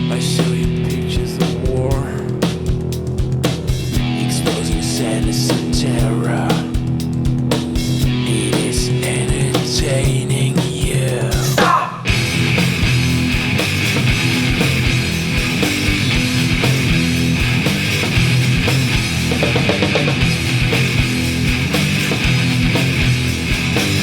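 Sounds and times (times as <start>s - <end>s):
distorted electric guitars: 0.0s - 24.0s
driving drum kit: 0.0s - 24.0s.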